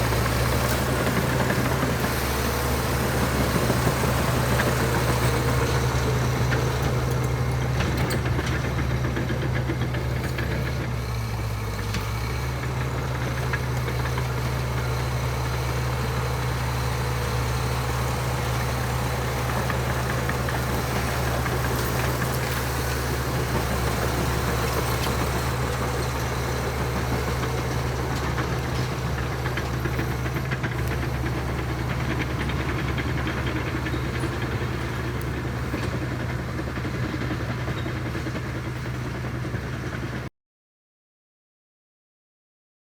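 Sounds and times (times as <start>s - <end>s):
bulldozer diesel engine droning: 0.0s - 40.3s.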